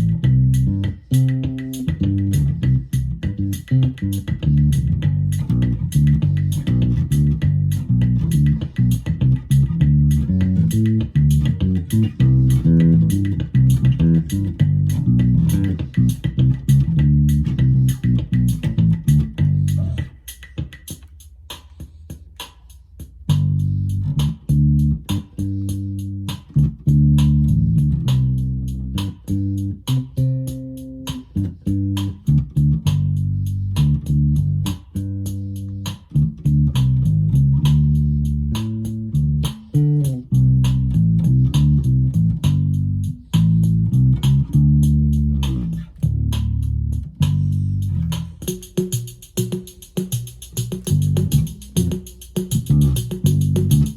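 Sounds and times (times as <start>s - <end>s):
electric bass playing: 0.0s - 20.8s, 23.2s - 48.6s, 50.6s - 53.9s
drum machine beat: 0.0s - 53.9s.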